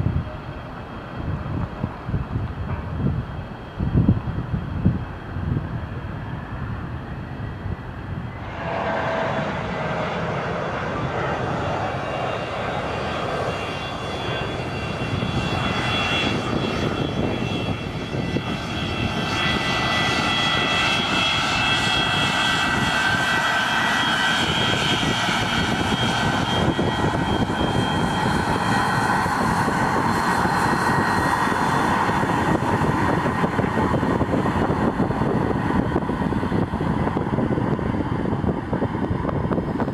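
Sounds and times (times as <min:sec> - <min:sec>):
jet engines rushing and whining: 0:00.0 - 0:39.9.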